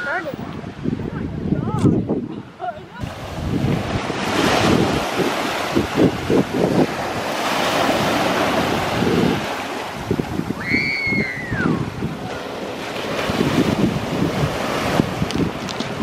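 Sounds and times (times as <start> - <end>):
surf rushing: 0.0 - 16.0
wind buffeting microphone: 0.0 - 16.0.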